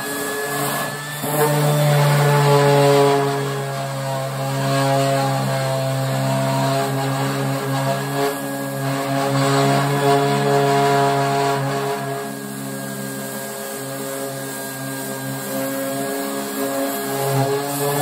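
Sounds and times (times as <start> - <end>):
orbital sander humming: 0.0 - 18.0.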